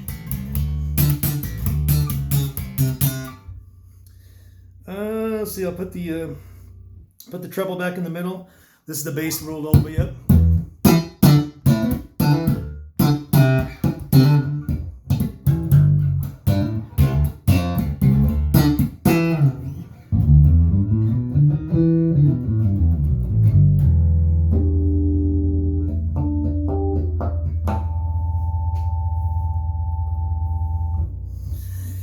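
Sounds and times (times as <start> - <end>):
electric bass plucked notes: 0.0 - 7.2, 9.6 - 32.0.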